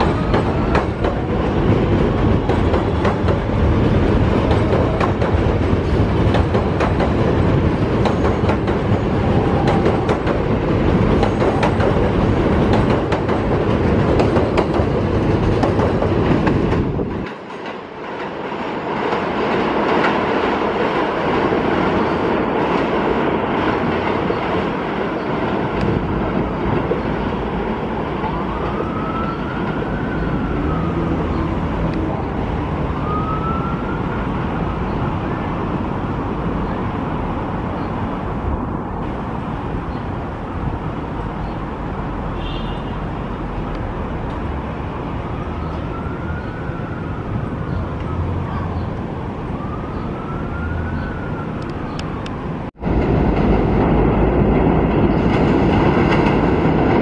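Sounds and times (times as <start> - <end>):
subway train rumble and clatter: 0.0 - 57.0.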